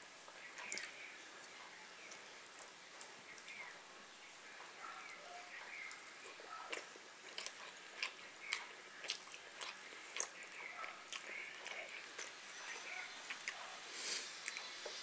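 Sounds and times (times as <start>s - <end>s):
person chewing food: 0.3s - 3.9s, 4.5s - 15.0s.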